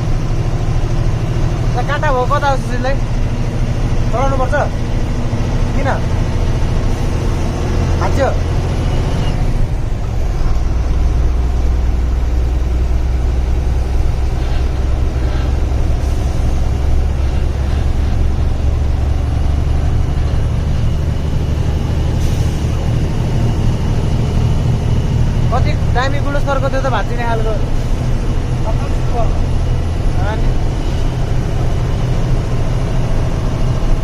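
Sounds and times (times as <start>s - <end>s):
diesel truck engine running: 0.0s - 34.0s
road noise: 0.0s - 34.0s.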